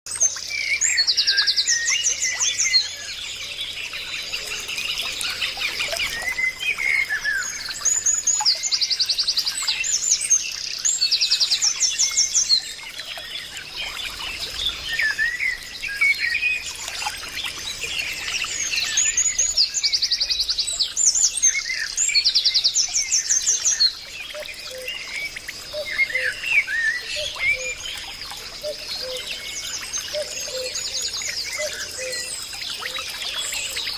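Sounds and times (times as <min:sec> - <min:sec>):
birds singing and calling: 0:00.1 - 0:33.9.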